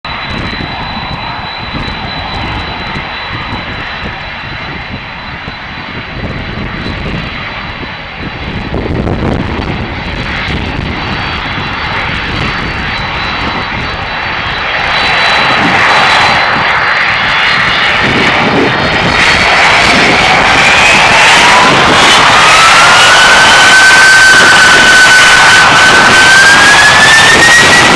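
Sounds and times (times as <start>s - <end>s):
jet engine roar with fan whine: 0.0s - 27.9s.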